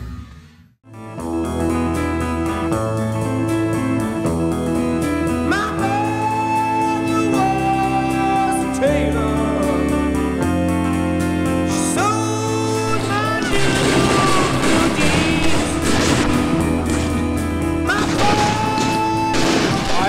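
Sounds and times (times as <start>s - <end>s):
song with guitar and beat: 0.9s - 19.9s.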